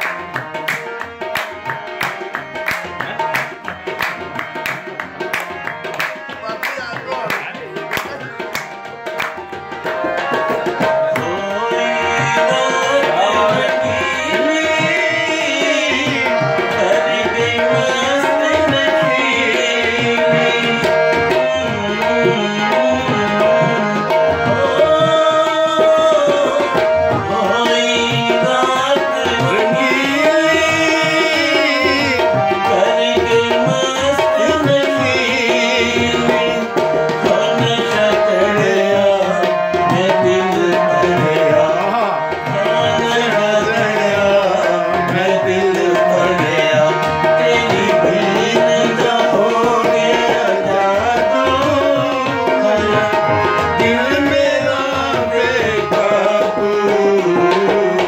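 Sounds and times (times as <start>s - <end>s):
harmonium melody: 0.0s - 58.0s
man singing: 0.0s - 58.0s
tabla playing: 0.0s - 58.0s.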